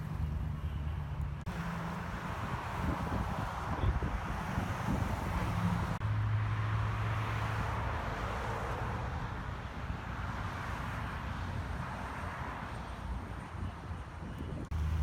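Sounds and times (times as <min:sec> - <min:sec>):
road noise rush: 0:00.0 - 0:15.0.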